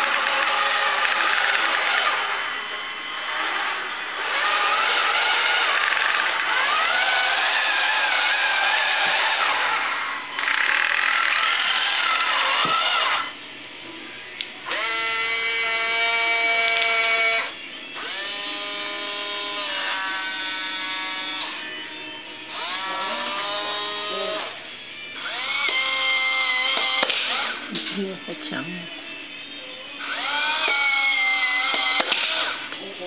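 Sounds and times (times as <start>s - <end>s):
electric motors whining: 0.0s - 33.0s
rough irregular motor noise: 0.0s - 33.0s.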